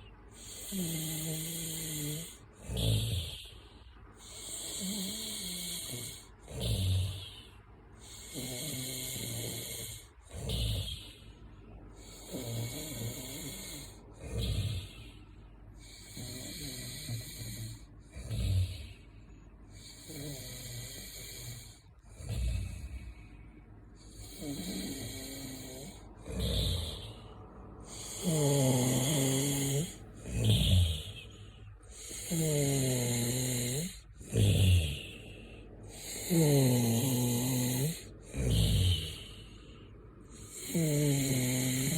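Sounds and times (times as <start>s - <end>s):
snoring: 0.0s - 11.3s, 12.0s - 15.2s, 15.8s - 19.1s, 19.7s - 23.3s, 23.9s - 27.2s, 27.8s - 39.6s, 40.3s - 41.9s.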